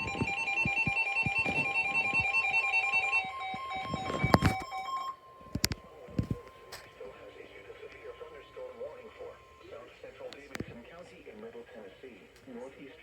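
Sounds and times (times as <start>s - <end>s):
steady attention tone: 0.0s - 11.8s.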